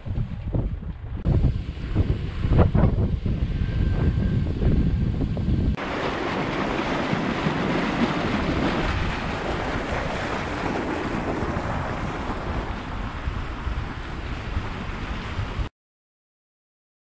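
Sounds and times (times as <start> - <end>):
wind on microphone: 0.0 - 15.7
sea waves rushing: 1.2 - 15.7.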